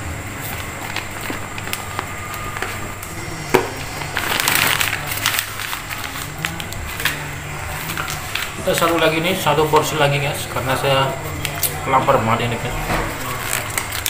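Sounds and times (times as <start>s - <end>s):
crackly rustling: 0.2s - 14.0s.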